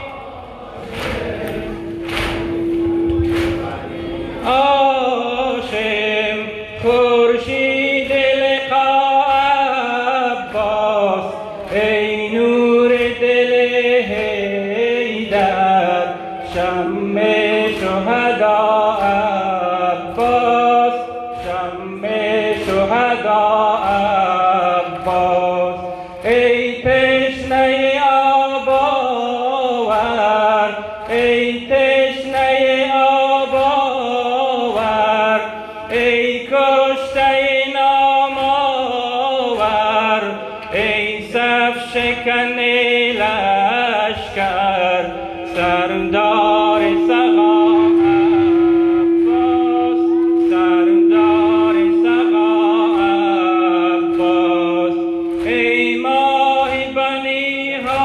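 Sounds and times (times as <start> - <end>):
person chanting a lament: 0.0 - 58.0.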